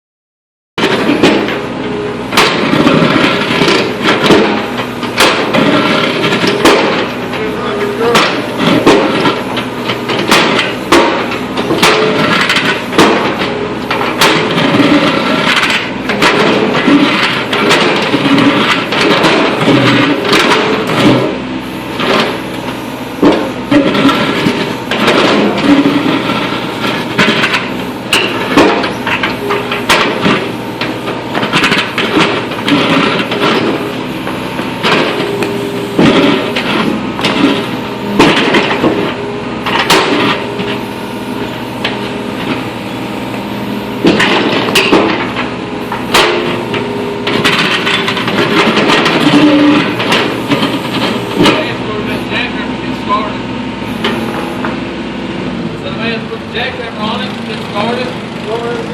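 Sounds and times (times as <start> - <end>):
excavator engine running: 0.8 - 58.9
bucket breaking up asphalt: 2.3 - 21.4, 22.0 - 53.3.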